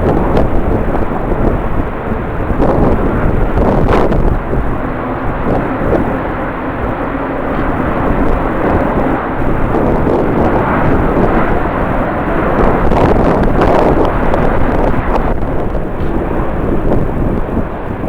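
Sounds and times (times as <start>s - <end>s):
jet engines running: 0.0s - 18.0s
wind buffeting microphone: 0.0s - 18.0s.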